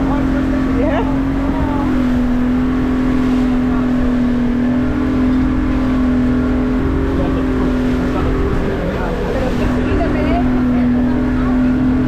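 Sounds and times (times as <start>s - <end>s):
outboard motor running: 0.0s - 12.0s
rushing wake: 0.0s - 12.0s
wind: 0.0s - 12.0s.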